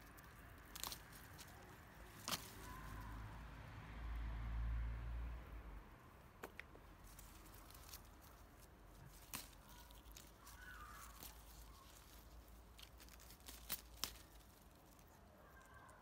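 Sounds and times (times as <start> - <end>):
berries snapping off bush: 0.0 - 3.3, 6.4 - 16.0.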